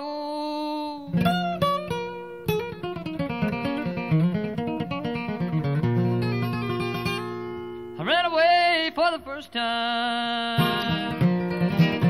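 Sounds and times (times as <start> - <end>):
acoustic guitar picking: 0.0 - 12.0.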